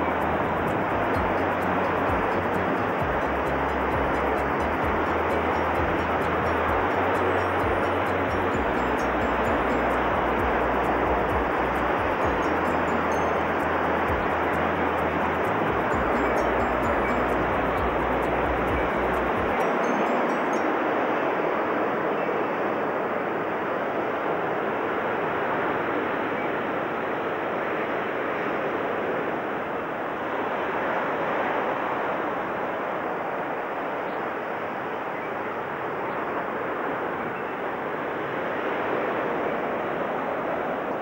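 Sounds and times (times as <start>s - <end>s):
steady rushing noise: 0.0s - 41.0s.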